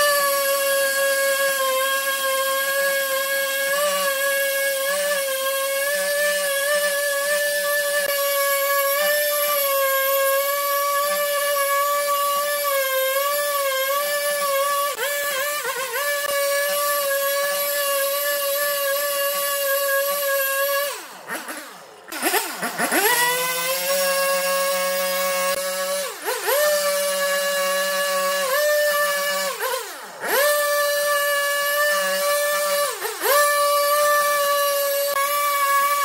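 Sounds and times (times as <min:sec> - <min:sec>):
chainsaw cutting log: 0:00.0 - 0:36.0.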